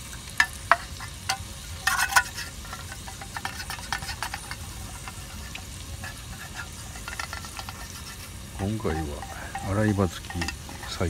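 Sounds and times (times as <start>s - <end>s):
crackles and clicks: 0.0s - 11.0s
pan sizzling: 0.0s - 11.0s.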